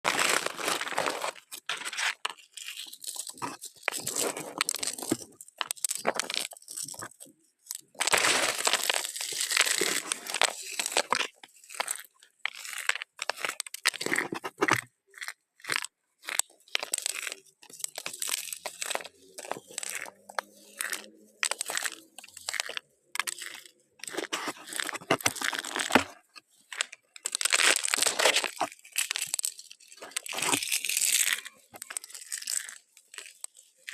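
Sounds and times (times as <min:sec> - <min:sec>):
crinkling and crunching: 0:00.0 - 0:33.9.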